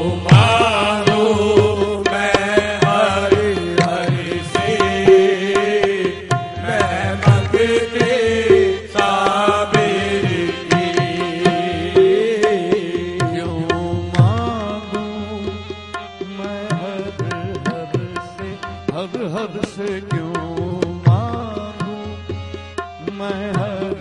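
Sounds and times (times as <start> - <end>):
person singing wordless ornaments: 0.0 - 22.0
tabla strokes: 0.0 - 23.7
harmonium melody: 0.0 - 24.0.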